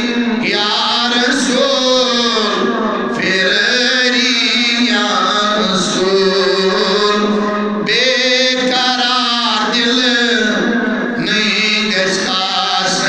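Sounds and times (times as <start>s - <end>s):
man chanting devotional poem: 0.0s - 13.0s.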